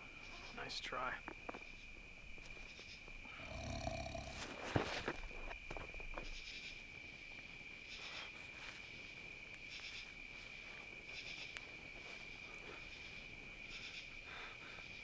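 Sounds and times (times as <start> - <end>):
campfire crackles: 0.0 - 14.9
cricket trill: 0.0 - 15.0.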